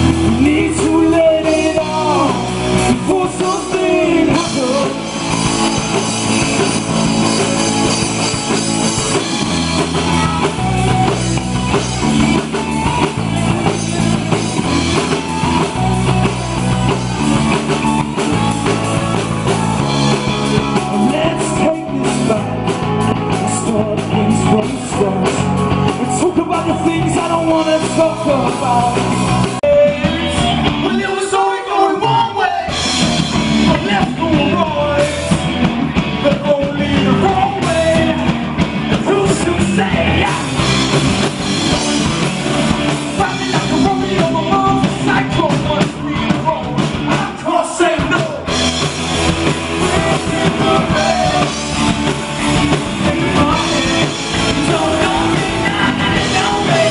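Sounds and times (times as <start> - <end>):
person singing: 0.0 - 11.2, 11.8 - 33.0, 36.1 - 41.2, 43.0 - 48.6, 49.4 - 56.9
live rock band playing loudly: 0.0 - 56.9.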